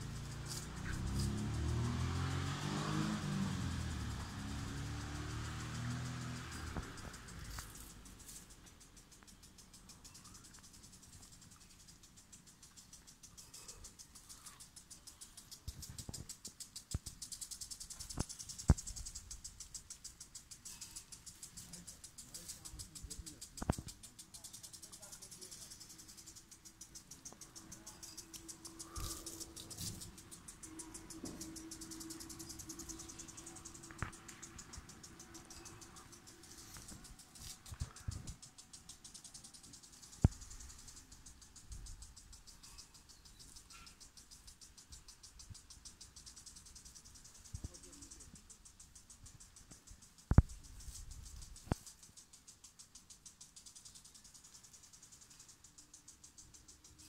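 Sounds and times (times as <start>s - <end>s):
cricket trilling: 0.0s - 57.0s.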